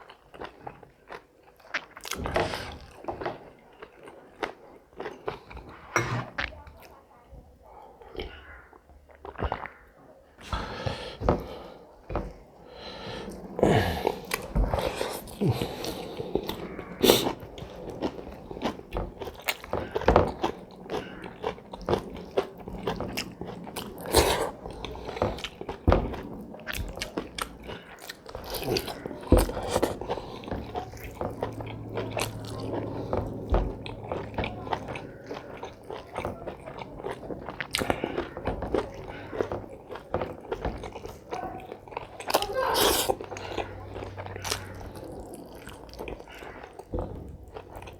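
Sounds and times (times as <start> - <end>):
biting and chewing: 0.0 - 7.0, 8.0 - 47.9.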